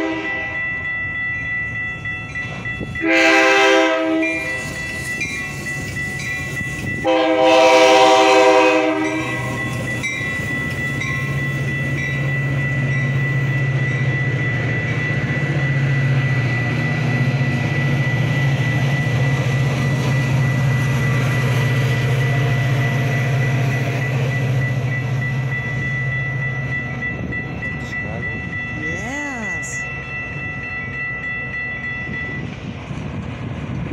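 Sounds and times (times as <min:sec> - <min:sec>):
crossing warning bell ringing: 0:00.0 - 0:33.9
train rumbling on rails: 0:00.0 - 0:33.9.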